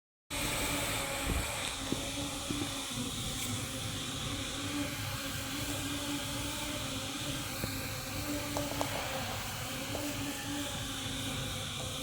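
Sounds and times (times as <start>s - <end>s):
cnc router spindle tone: 0.3s - 12.0s.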